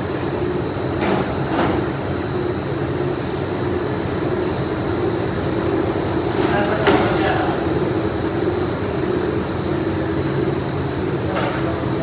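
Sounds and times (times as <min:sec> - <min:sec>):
high machinery whine: 0:00.0 - 0:12.0
low machinery drone: 0:00.0 - 0:12.0.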